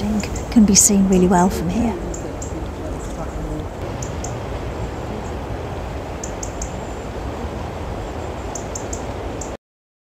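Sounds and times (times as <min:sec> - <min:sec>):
river rushing: 0:00.3 - 0:09.6.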